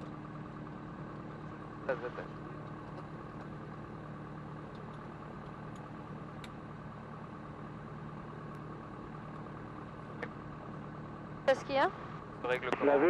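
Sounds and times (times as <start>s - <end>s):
aircraft piston engine idling: 0.0s - 13.0s.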